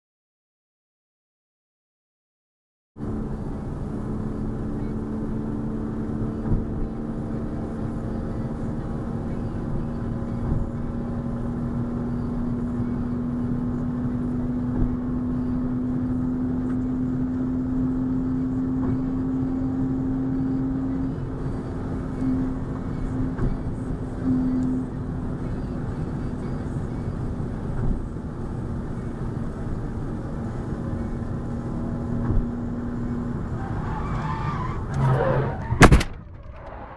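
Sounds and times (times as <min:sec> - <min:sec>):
car engine drone: 0:03.0 - 0:36.9
tyre and road noise: 0:03.0 - 0:36.9.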